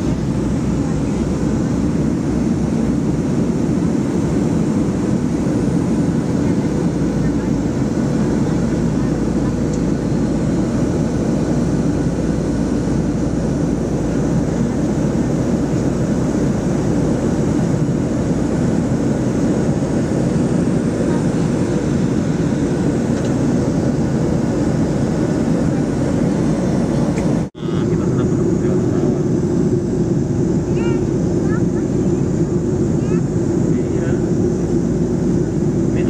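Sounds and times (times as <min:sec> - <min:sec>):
airliner engine rumble: 0:00.0 - 0:36.0.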